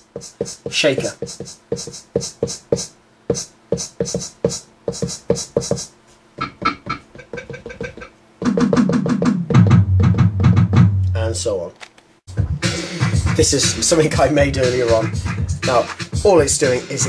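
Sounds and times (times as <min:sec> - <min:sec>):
electronic beat with synth bass: 0:00.2 - 0:09.8, 0:12.3 - 0:17.0.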